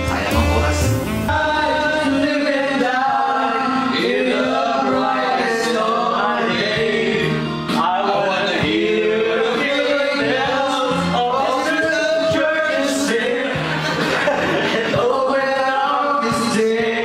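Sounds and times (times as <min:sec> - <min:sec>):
men singing karaoke: 0:00.0 - 0:17.0
pop backing track: 0:00.0 - 0:17.0.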